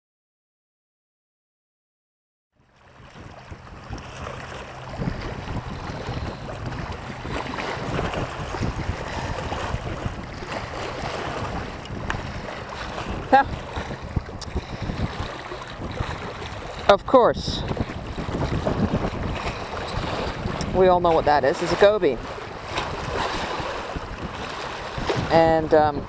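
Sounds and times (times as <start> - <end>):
waves lapping against rocks: 2.7 - 26.0
wind buffeting microphone: 2.8 - 26.0.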